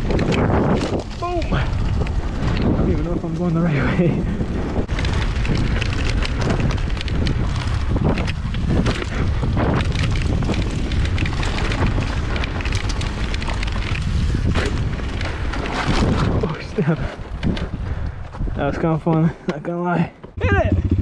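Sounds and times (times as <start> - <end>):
bike rattling over bumps: 0.0 - 19.3
wind buffeting microphone: 0.0 - 19.4
tyres crunching on dirt: 0.0 - 19.7.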